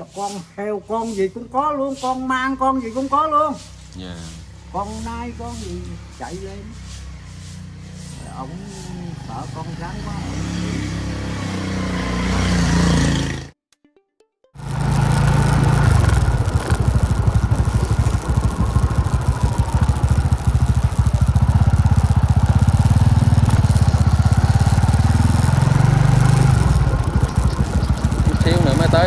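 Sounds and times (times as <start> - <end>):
motorcycle engine running: 1.1 - 13.6, 14.6 - 29.0.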